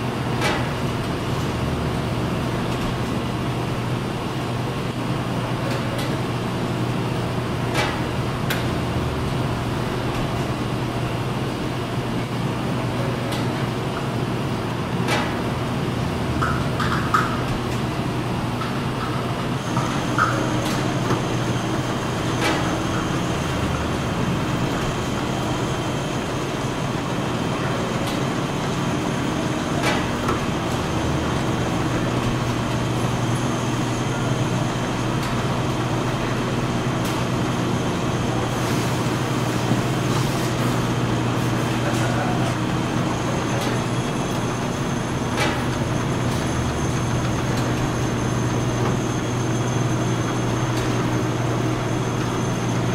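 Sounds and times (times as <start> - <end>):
factory machinery hum: 0.0 - 52.9.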